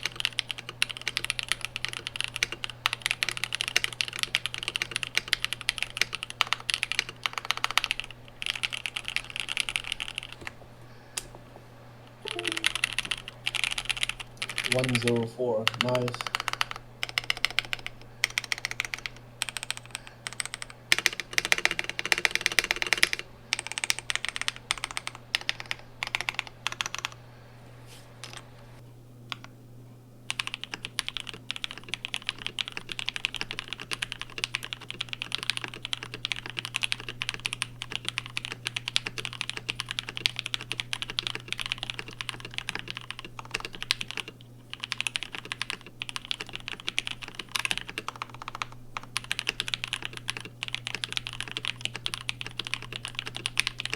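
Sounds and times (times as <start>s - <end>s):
mechanical keyboard typing: 0.0s - 10.5s, 12.2s - 27.2s, 30.3s - 53.9s.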